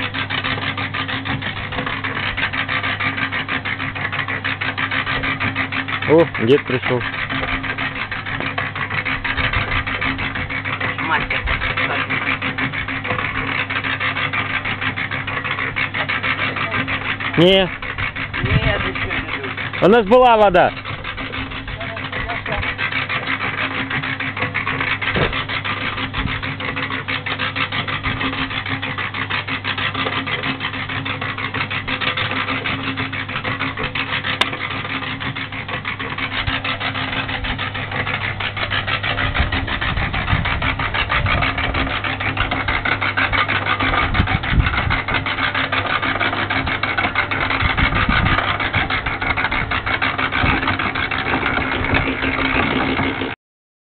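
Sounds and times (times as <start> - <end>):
concrete mixer running: 0.0 - 53.4.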